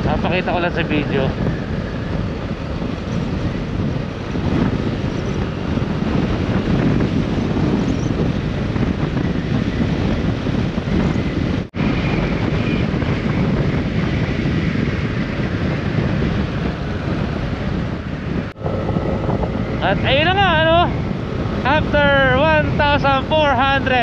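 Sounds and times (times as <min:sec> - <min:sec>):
motorcycle riding noise: 0:00.0 - 0:24.0
wind rushing over microphone: 0:00.0 - 0:24.0.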